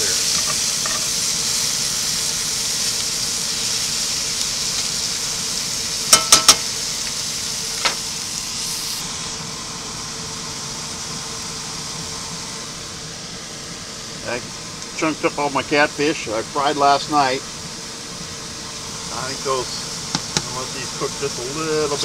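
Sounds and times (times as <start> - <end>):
vegetables sizzling in a skillet: 0.0 - 22.0.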